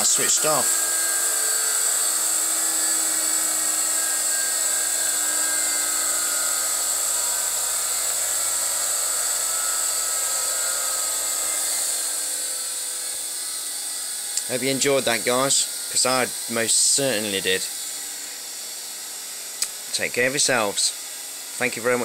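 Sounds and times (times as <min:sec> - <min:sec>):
electric motor whine and hum: 0:00.0 - 0:22.0.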